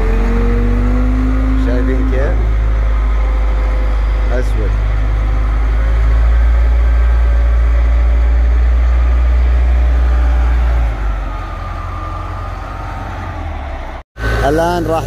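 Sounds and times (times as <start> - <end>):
diesel loader engine rumbling: 0.0 - 15.0.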